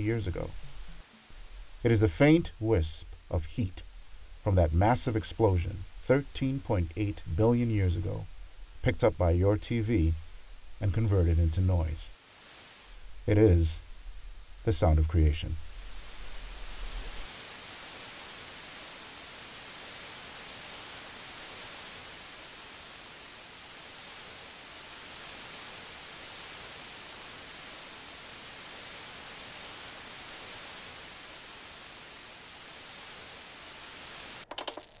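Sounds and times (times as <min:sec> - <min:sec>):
tv static hiss: 0:00.0 - 0:35.0.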